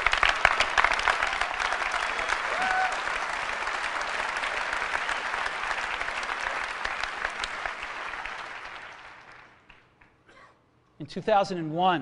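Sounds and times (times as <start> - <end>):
large audience applauding: 0.0 - 10.2.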